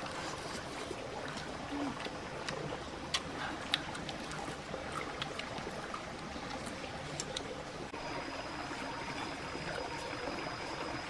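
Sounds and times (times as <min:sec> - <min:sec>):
flowing stream water: 0:00.0 - 0:11.0.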